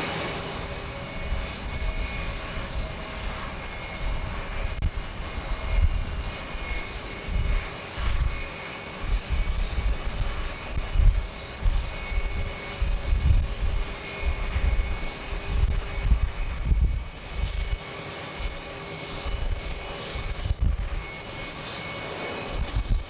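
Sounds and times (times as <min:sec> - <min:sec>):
wind buffeting microphone: 0:00.0 - 0:21.6, 0:22.3 - 0:23.0
jet engines whining: 0:00.0 - 0:23.0.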